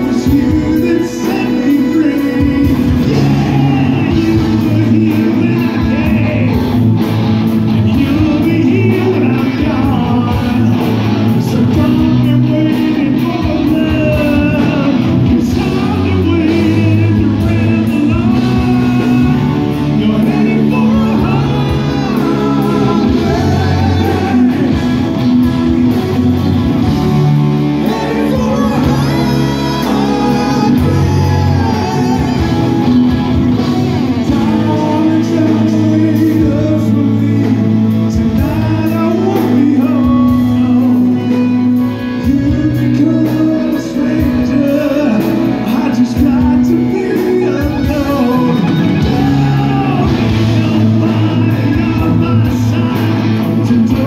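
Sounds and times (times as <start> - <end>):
live rock band: 0.0 - 54.0
man singing: 0.0 - 54.0.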